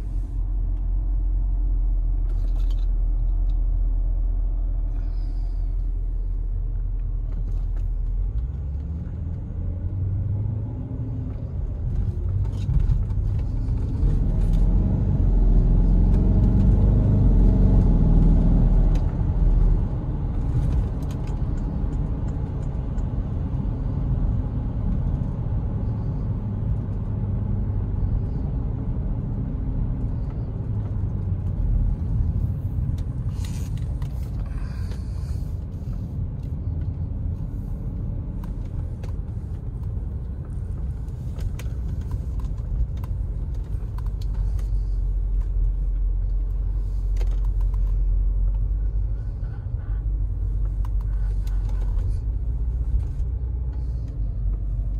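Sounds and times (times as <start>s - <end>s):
car engine low rumble: 0.0s - 54.9s
road noise: 0.0s - 54.9s.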